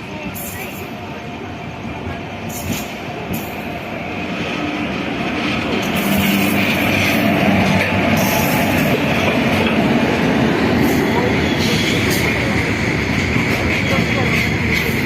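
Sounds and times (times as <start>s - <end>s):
train rumbling past on track: 0.0s - 15.0s.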